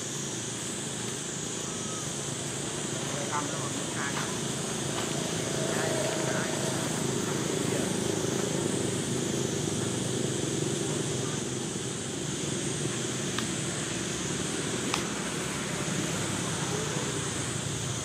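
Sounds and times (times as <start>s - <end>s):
high even hiss: 0.0s - 18.0s.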